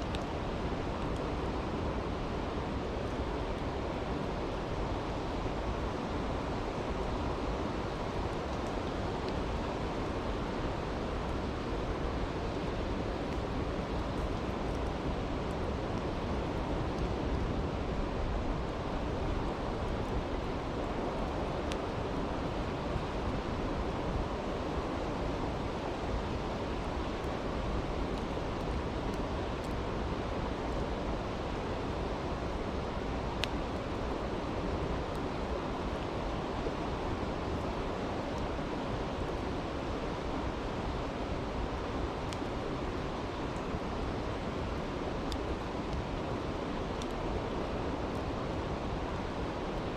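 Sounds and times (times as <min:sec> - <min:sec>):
campfire crackling: 0:00.0 - 0:49.9
stream rushing: 0:00.0 - 0:49.9.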